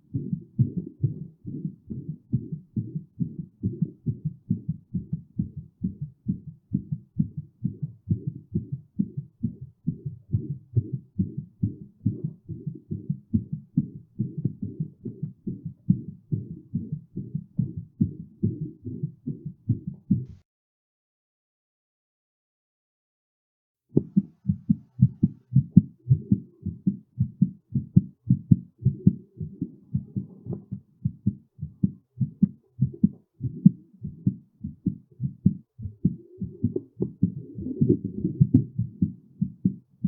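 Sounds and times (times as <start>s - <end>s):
fast heartbeat: 0.0s - 20.4s, 23.9s - 40.0s.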